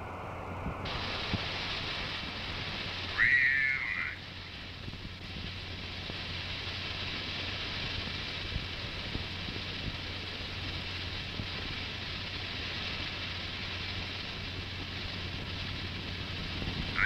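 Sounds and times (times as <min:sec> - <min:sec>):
low hum: 0:00.0 - 0:17.0
rushing roar of rocket plane: 0:00.0 - 0:17.0.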